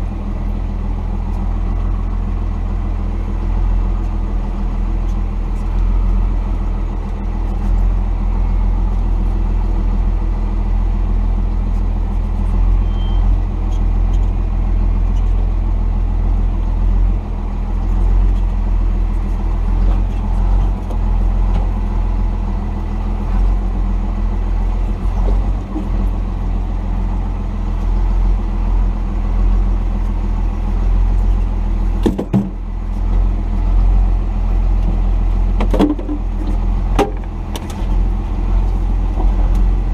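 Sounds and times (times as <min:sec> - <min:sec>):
diesel engine low drone: 0:00.0 - 0:39.9.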